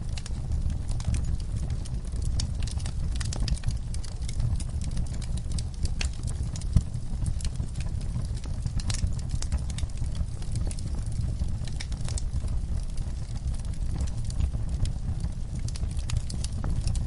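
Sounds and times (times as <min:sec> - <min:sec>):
low rumble of flame: 0:00.0 - 0:17.0
wood logs crackling and popping: 0:00.0 - 0:17.0.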